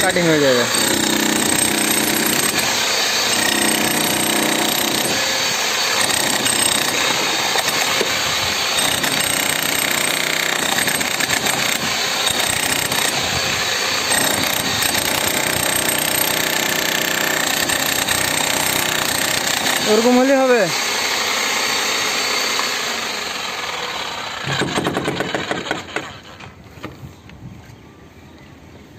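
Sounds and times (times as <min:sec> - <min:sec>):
demolition hammer chiselling concrete: 0:00.0 - 0:26.4.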